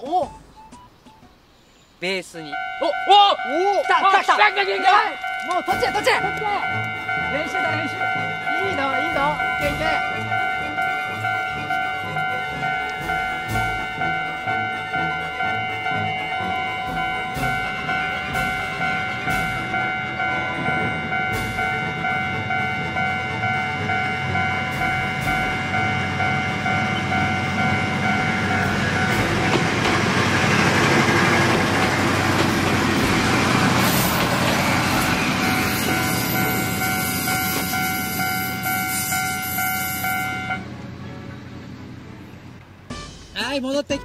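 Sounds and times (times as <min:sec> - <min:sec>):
diesel railcar passing: 0:00.4 - 0:44.0
crossing alarm dinging: 0:02.2 - 0:44.0.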